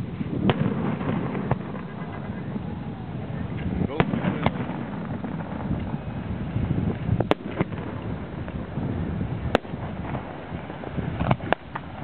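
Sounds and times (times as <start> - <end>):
fireworks rumbling: 0.0 - 12.0
fireworks sharp bangs: 0.0 - 12.0.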